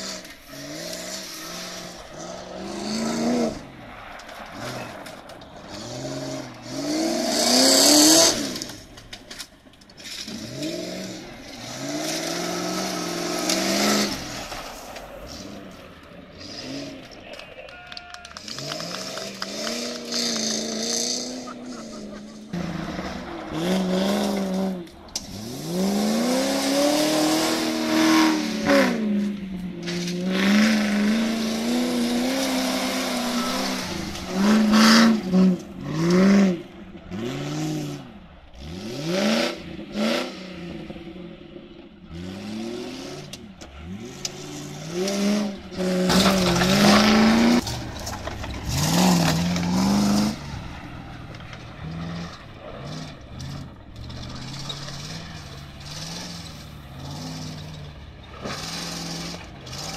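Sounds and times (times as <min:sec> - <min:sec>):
off-road engines revving: 0:00.0 - 0:59.9.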